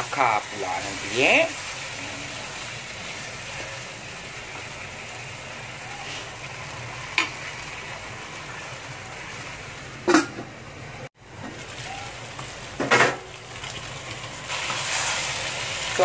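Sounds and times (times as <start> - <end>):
chicken sizzling in a wok: 0.0 - 10.1, 11.2 - 16.0.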